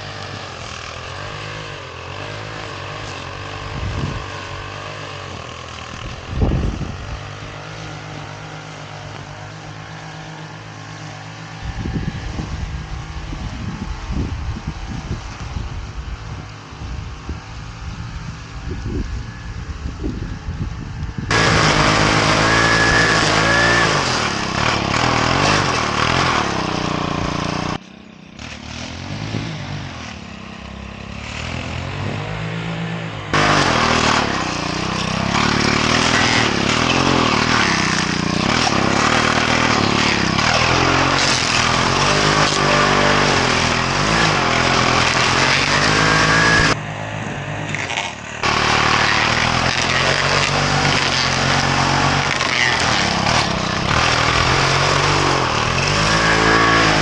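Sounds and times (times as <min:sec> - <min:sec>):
small gasoline engine running: 0:00.0 - 0:32.2, 0:33.3 - 0:57.0.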